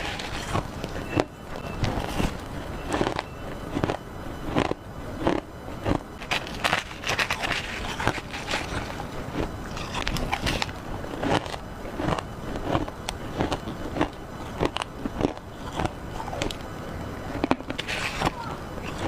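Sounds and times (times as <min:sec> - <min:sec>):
ice crunched between teeth: 0:00.0 - 0:01.0, 0:01.9 - 0:16.6.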